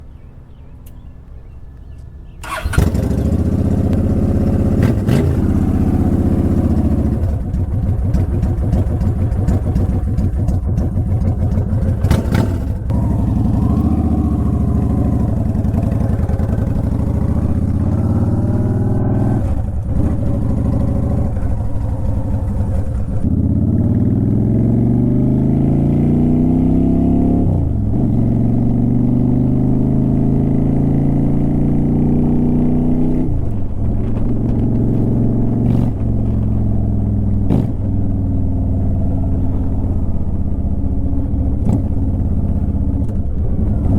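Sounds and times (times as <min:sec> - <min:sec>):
motorcycle engine accelerating: 0:00.1 - 0:43.9.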